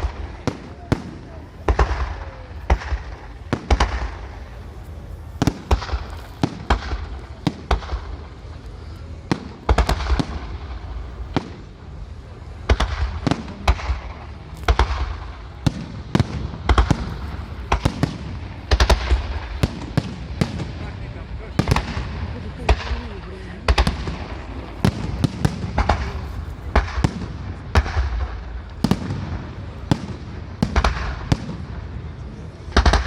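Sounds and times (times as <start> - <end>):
fireworks bangs: 0.0 - 33.0
low rumble and echo: 0.0 - 33.0.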